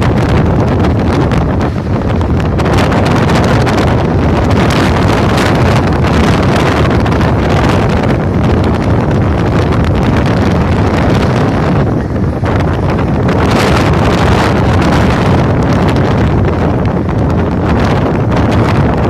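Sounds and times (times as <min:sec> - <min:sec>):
heavy low rumble: 0:00.0 - 0:19.0
wind buffeting microphone: 0:00.0 - 0:19.0.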